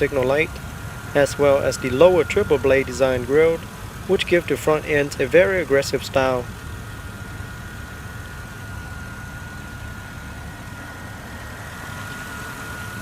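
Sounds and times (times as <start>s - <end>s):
car engine idling: 0.0s - 13.0s
faint thin whine: 0.0s - 13.0s.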